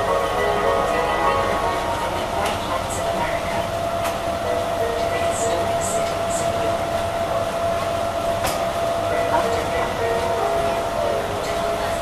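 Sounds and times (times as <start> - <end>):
shuttle car running rumble: 0.0 - 12.0.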